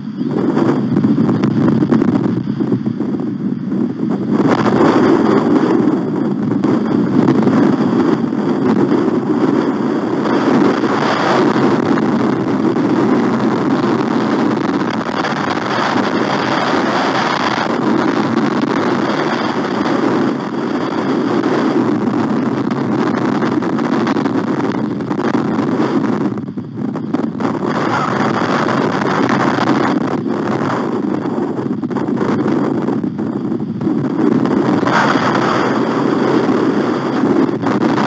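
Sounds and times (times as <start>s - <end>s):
strong wind on microphone: 0.0s - 38.0s.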